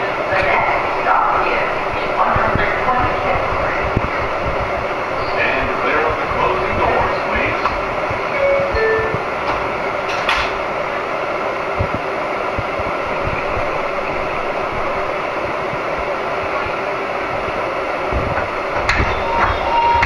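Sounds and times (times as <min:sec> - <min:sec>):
subway train running: 0:00.0 - 0:20.0.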